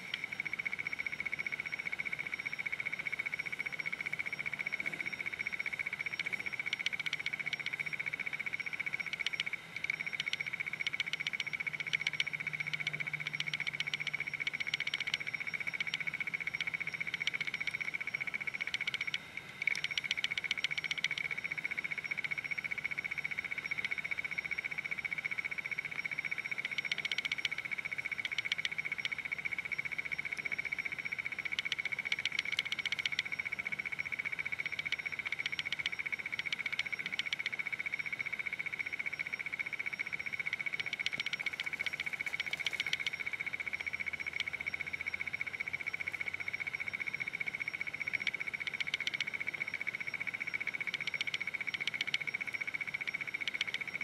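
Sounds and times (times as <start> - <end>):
rapid clicking calls: 0.0 - 54.0.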